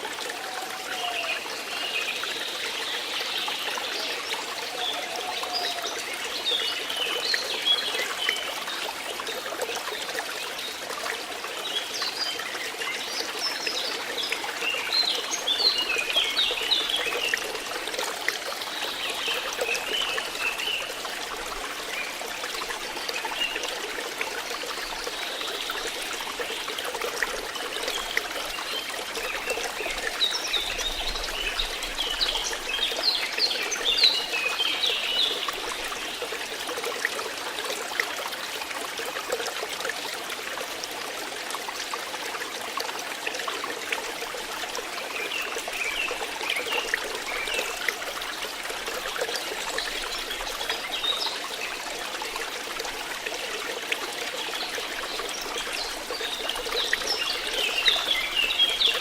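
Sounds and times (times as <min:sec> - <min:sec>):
water flowing and trickling: 0:00.0 - 0:59.0.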